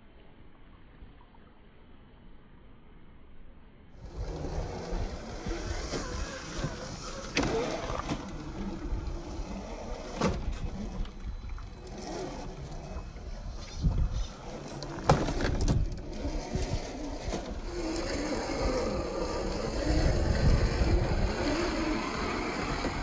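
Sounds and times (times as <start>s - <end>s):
toy car rumbling over stone: 4.0s - 23.0s.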